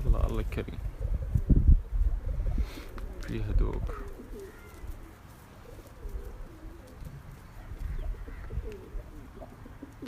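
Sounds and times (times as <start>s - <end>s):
pigeons cooing: 0.1s - 10.0s.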